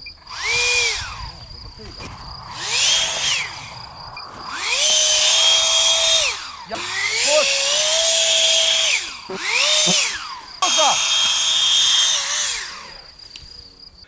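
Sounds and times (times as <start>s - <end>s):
electric motor and propeller whining: 0.0s - 13.9s.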